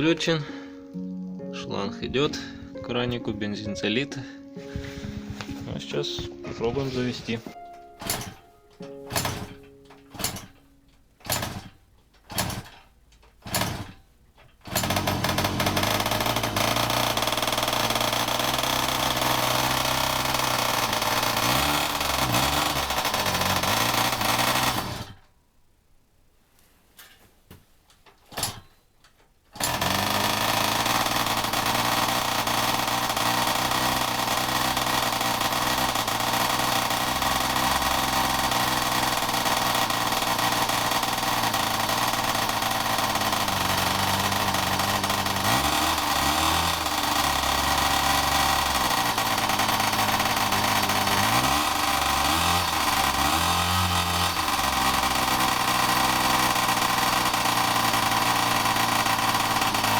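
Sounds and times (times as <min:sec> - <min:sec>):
two-stroke moped engine running: 0:04.6 - 0:25.2, 0:28.3 - 0:28.8, 0:29.5 - 0:59.9.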